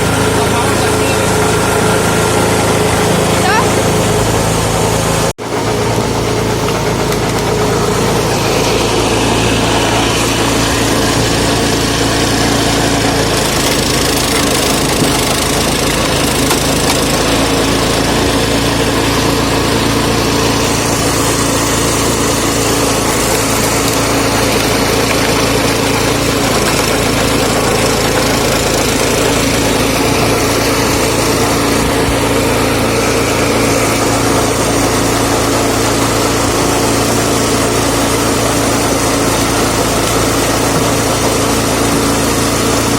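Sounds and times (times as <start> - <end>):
petrol engine running steadily: 0.0 - 42.9.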